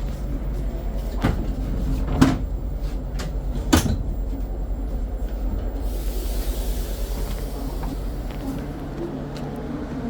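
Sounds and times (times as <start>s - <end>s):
passenger train rumbling: 0.0s - 10.0s.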